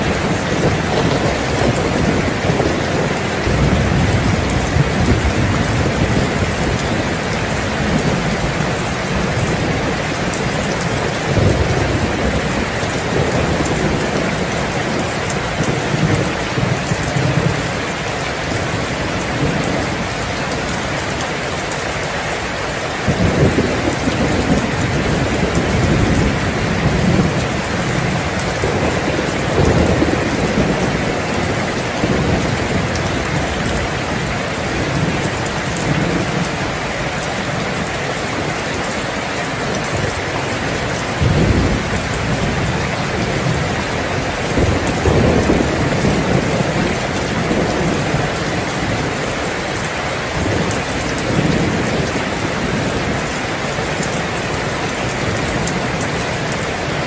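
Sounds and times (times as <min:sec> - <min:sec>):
thunder rumbling: 0:00.0 - 0:21.6, 0:22.4 - 0:57.0
heavy rain hissing: 0:00.0 - 0:57.0.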